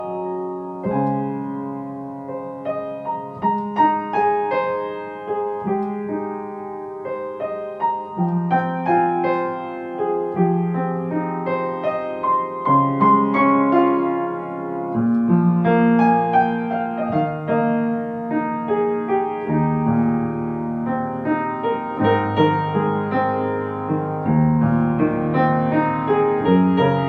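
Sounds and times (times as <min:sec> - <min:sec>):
slow solo piano music: 0:00.0 - 0:27.0.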